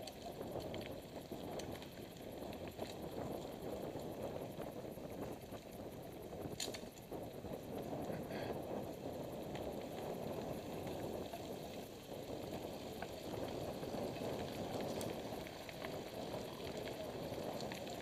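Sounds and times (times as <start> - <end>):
bike clicks and rattles: 0.0 - 18.0
knobby tyres rolling on dirt: 0.0 - 18.0.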